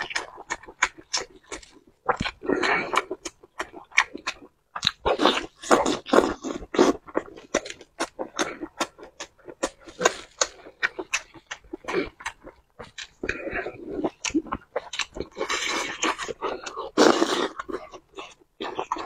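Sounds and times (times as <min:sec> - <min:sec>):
wet chewing and lip smacks: 0:00.0 - 0:19.0.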